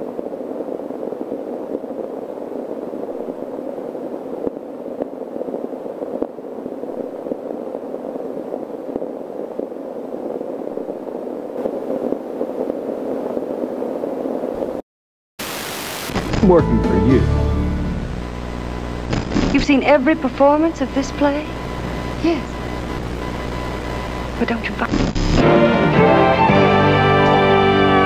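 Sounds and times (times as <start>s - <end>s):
muffled static-like tape noise: 0.0s - 14.8s, 15.4s - 28.0s.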